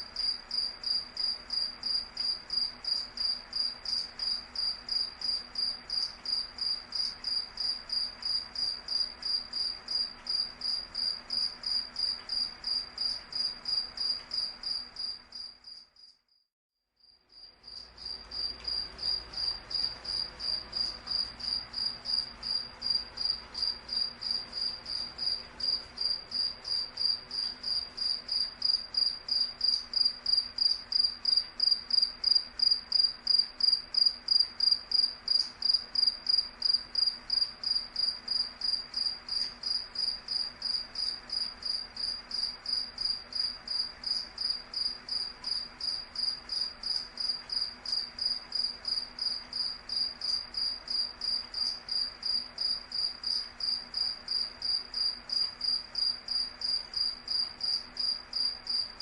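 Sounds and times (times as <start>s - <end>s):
cricket chirping: 0.0s - 16.4s, 17.0s - 59.0s.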